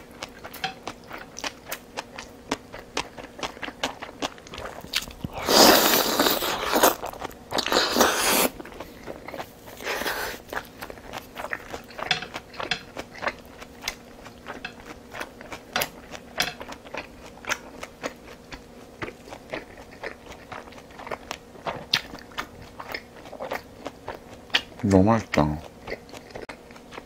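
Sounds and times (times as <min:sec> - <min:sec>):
faint steady hum: 0:00.0 - 0:27.0
person chewing food: 0:00.0 - 0:27.0.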